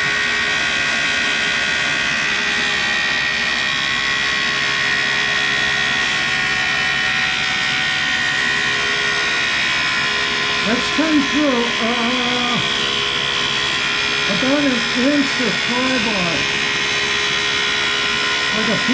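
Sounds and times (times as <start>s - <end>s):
grinder high whine: 0.0s - 18.9s.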